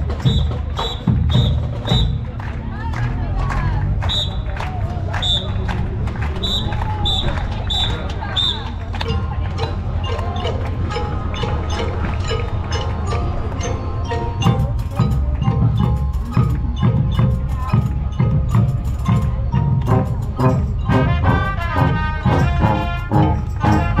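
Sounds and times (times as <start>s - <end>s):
music with wood-block percussion: 0.0s - 24.0s.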